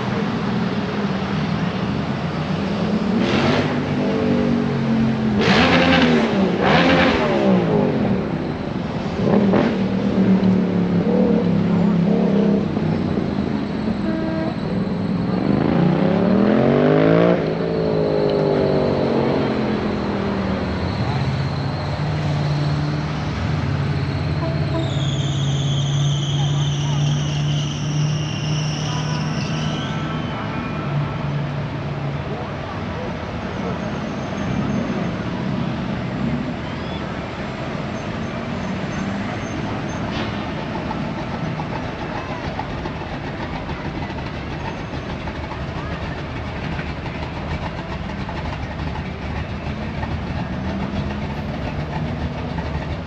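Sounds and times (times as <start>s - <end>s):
street traffic: 0.0s - 53.0s.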